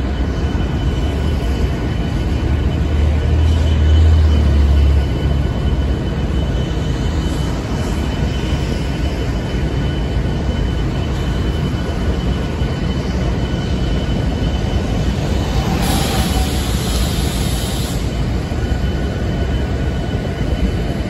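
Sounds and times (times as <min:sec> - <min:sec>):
diesel locomotives rumbling: 0:00.0 - 0:21.0
faint high whine: 0:00.0 - 0:21.0.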